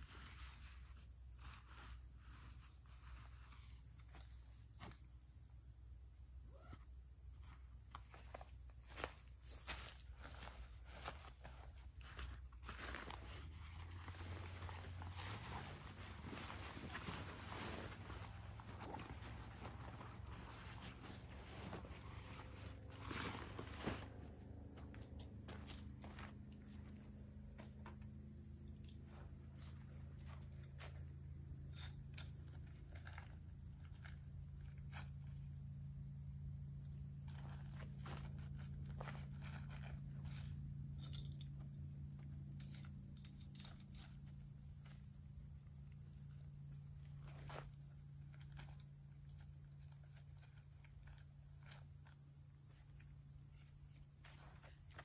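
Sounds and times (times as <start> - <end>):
low background hum: 0.0 - 55.0
small clicks and rustles: 6.6 - 55.0.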